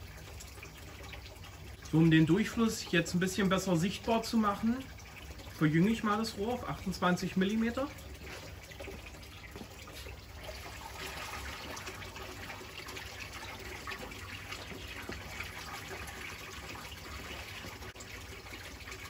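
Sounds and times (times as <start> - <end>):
pump low hum: 0.0 - 19.0
water pouring into a tank: 0.0 - 19.0.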